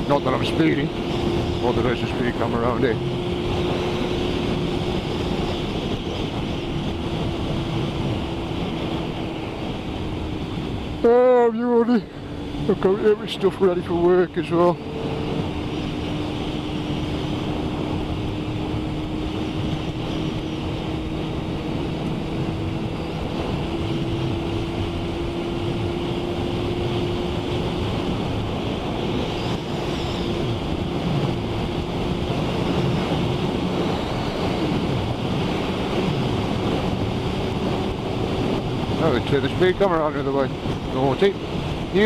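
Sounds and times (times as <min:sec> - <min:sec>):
motorcycle engine hum: 0:00.0 - 0:42.0
wind rush on microphone: 0:00.0 - 0:42.0.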